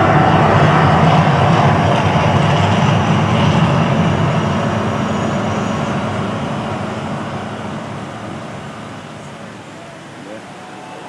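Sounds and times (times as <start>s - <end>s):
deep eruption rumble: 0.0s - 10.2s.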